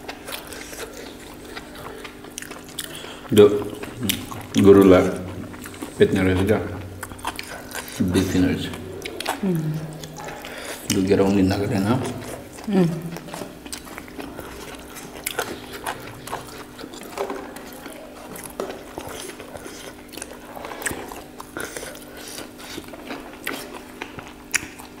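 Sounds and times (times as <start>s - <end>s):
chewing and biting meat: 0.0s - 25.0s
faint steady hum: 0.0s - 25.0s.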